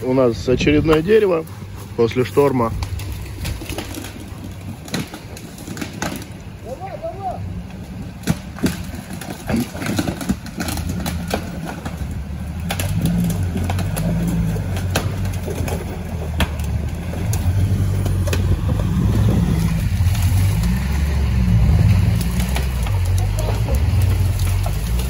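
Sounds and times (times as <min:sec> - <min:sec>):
off-road vehicle engine under load: 0:00.0 - 0:25.0
sharp cracks and knocks: 0:02.4 - 0:06.9, 0:07.6 - 0:25.0.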